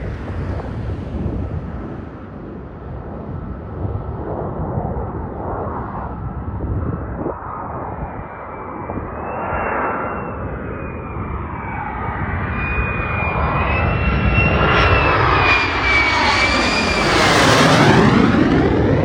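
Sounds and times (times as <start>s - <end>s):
fighter jet passing low: 0.0s - 19.0s.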